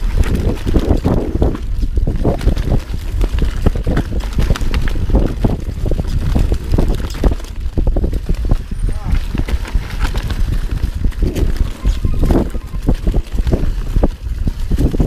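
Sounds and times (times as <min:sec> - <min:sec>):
bike rattling over rocks: 0:00.0 - 0:15.0
wind buffeting microphone: 0:00.0 - 0:15.0.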